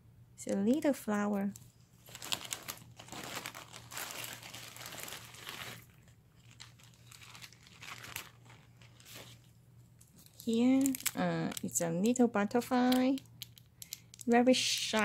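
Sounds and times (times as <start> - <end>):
plastic bag crinkling: 1.4 - 15.0.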